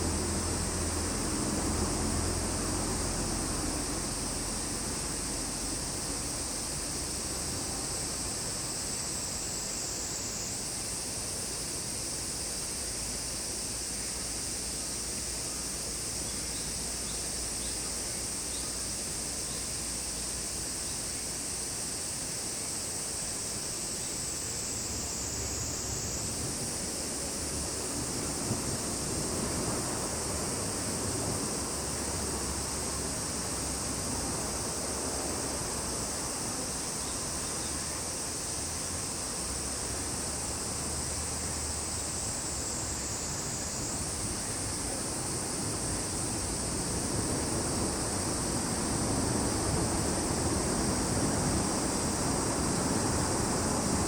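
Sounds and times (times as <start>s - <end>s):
cicadas droning: 0.0s - 54.0s
low rushing background noise: 0.0s - 54.0s.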